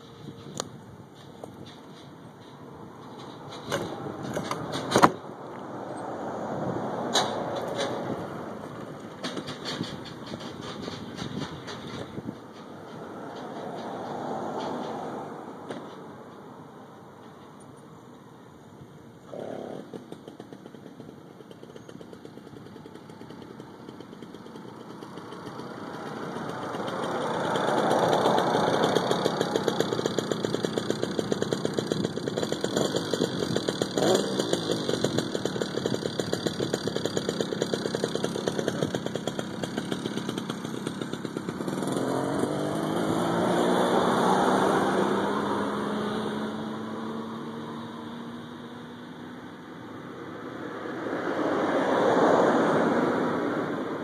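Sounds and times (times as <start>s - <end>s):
two-stroke engine popping: 0.0s - 17.8s, 19.3s - 49.9s.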